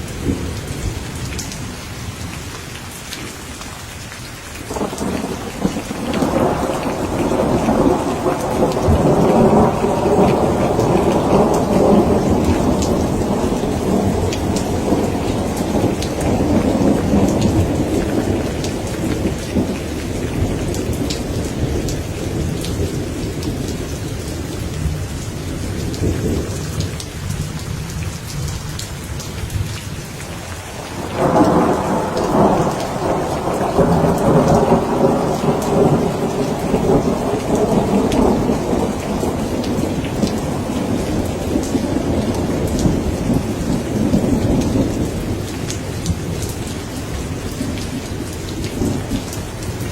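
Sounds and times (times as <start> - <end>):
rain pattering: 0.0 - 49.9
thunder rumbling: 4.7 - 49.9.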